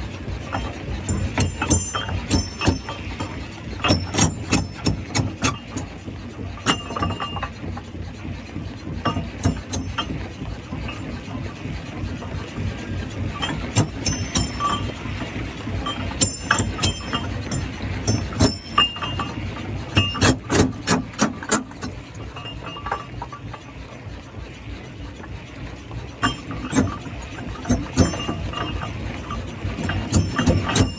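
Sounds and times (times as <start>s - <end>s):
stone crusher rumbling: 0.0s - 7.9s, 9.0s - 24.2s, 25.8s - 30.9s.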